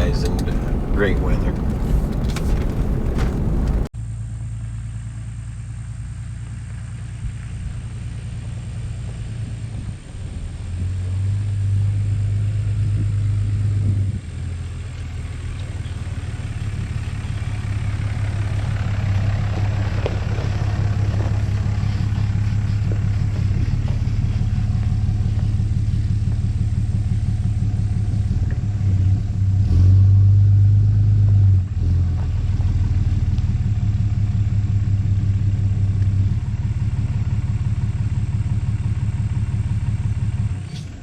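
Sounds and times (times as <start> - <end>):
truck engine and road drone: 0.0 - 41.0.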